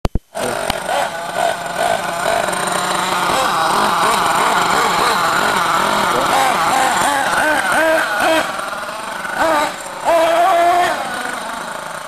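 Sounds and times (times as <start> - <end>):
rc truck engine revving: 0.3 - 12.0.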